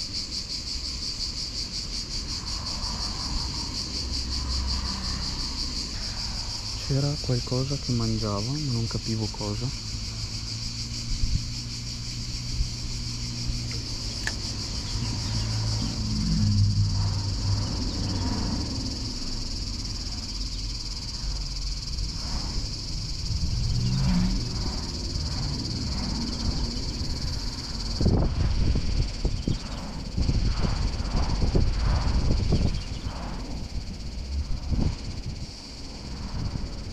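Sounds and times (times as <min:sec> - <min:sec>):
insects chorus: 0:00.0 - 0:36.9
low rumble: 0:02.4 - 0:36.9.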